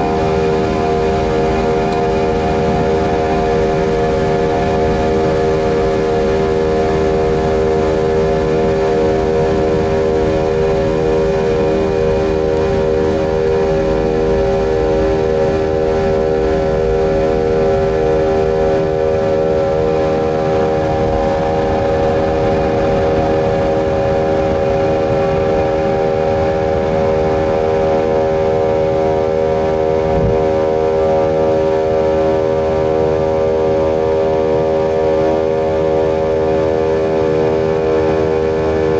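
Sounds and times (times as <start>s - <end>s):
jet engines at takeoff thrust: 0.0s - 38.9s
takeoff roll rumble: 0.0s - 38.9s.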